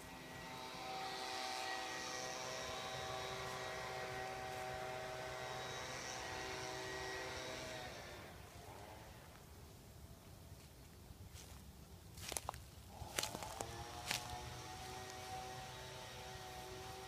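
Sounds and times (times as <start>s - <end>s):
steady engine drone: 0.0s - 10.1s, 12.8s - 17.0s.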